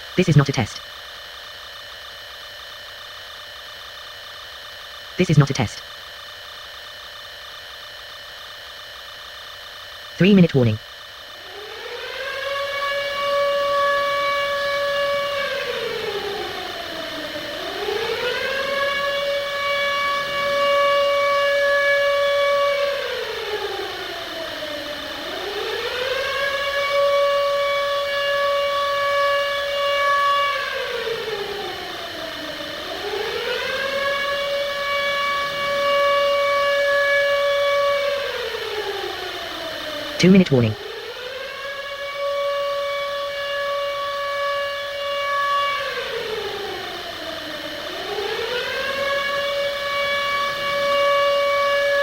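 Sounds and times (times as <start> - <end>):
civil defence siren wailing: 0.0 - 52.0.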